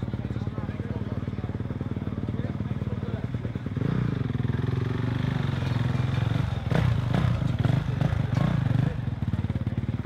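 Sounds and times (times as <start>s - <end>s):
motocross engines running: 0.0s - 10.0s.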